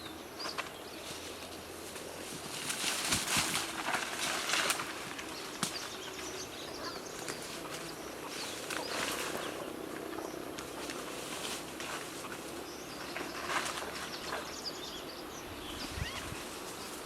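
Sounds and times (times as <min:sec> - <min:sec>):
forest rustling: 0:00.0 - 0:17.0.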